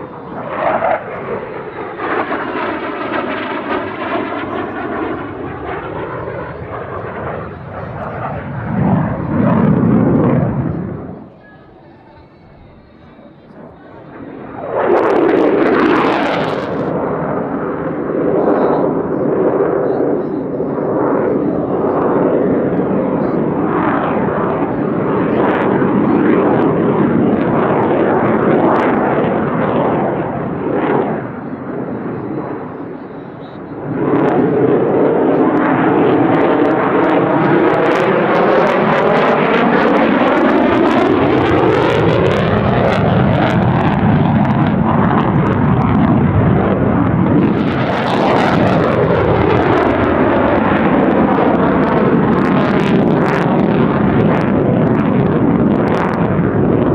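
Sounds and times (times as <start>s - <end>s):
fighter jet roaring overhead: 0.0s - 56.9s.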